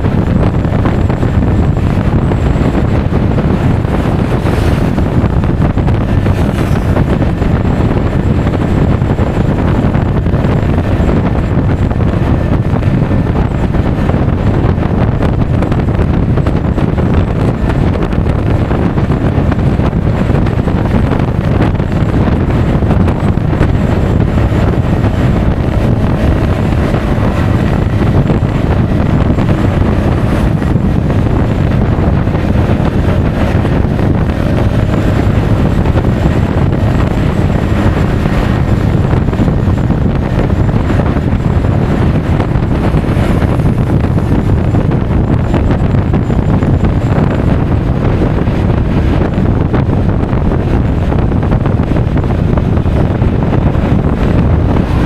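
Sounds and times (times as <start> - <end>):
road noise: 0.0 - 55.0
wind buffeting microphone: 0.0 - 55.0.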